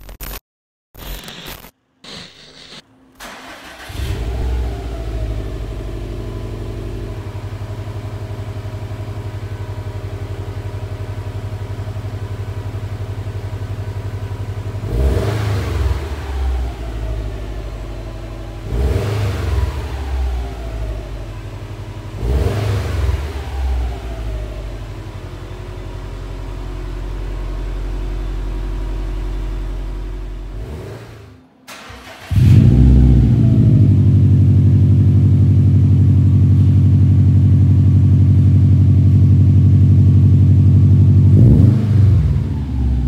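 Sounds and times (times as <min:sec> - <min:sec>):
car engine idling and revving: 0:03.2 - 0:43.0.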